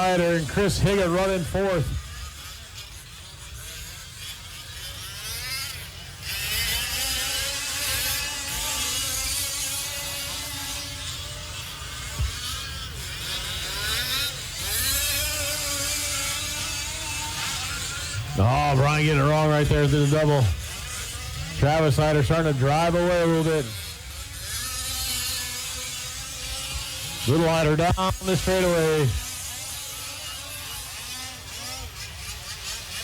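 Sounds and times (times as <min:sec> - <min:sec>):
rc truck engines buzzing: 0:00.0 - 0:33.0.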